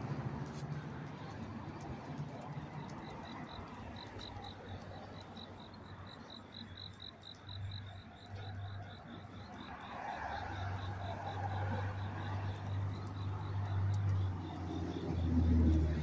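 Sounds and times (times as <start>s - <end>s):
insect chirping: 2.6s - 16.0s.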